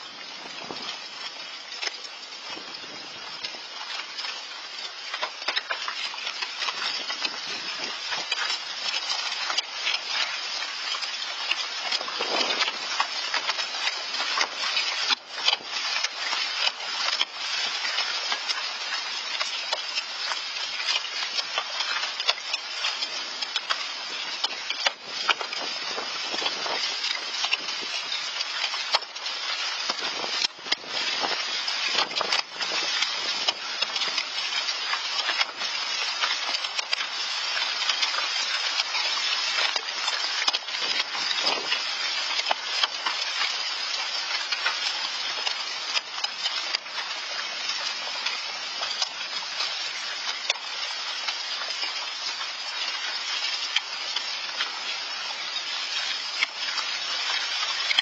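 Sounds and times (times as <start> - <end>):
hailstones pelting down: 0.0 - 58.0.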